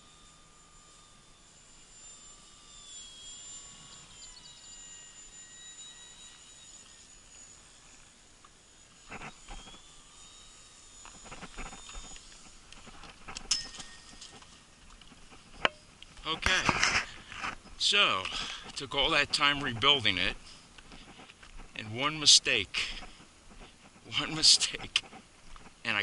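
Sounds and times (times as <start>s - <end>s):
model plane electric motor whine: 0.0s - 26.0s.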